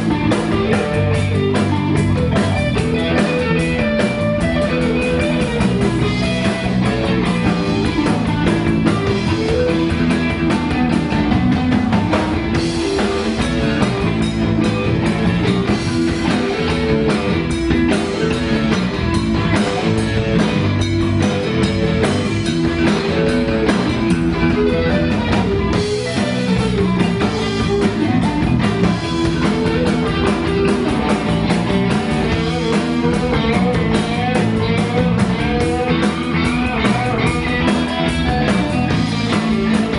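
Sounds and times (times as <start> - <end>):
blues band playing live: 0.0 - 39.9
electric guitar: 0.0 - 39.9.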